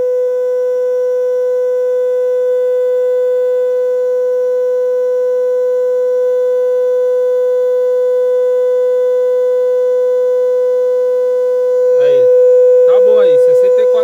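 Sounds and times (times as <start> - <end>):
steady sine test tone: 0.0 - 14.0.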